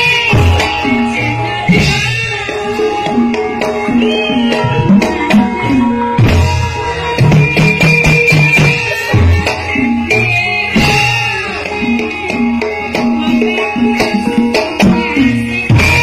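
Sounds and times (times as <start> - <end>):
hand drums playing quick rhythm: 0.0 - 16.0
ringing metallophones: 0.0 - 16.0
woman singing: 0.0 - 16.0.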